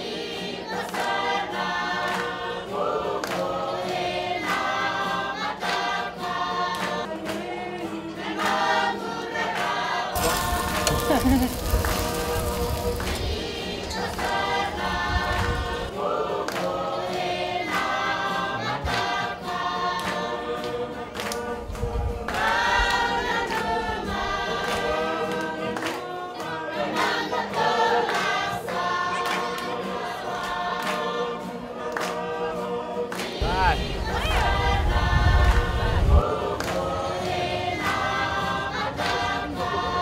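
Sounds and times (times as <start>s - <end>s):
choir singing in harmony: 0.0s - 40.0s.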